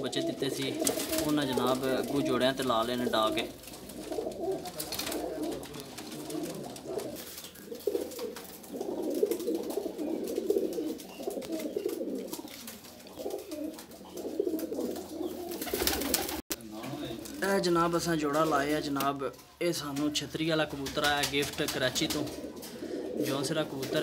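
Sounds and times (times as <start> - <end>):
pigeons cooing: 0.0 - 16.4, 20.8 - 24.0.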